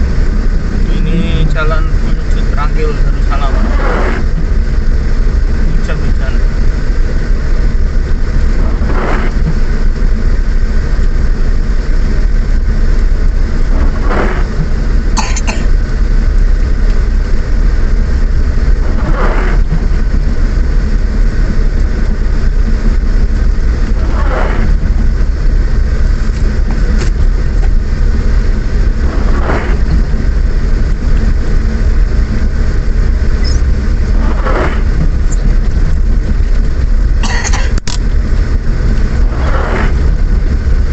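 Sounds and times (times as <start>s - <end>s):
car cabin rumble in rain: 0.0s - 40.9s
windscreen wiper swishing: 0.0s - 40.9s.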